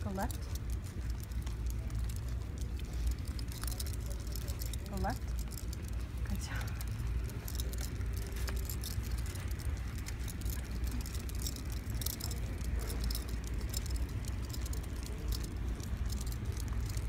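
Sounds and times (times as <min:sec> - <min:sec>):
dog harness rattling: 0:00.0 - 0:17.0.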